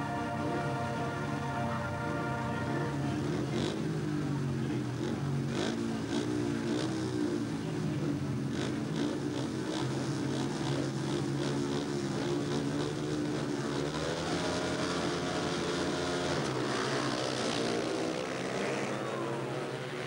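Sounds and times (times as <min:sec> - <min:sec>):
motorbike engines revving: 0:00.0 - 0:20.0.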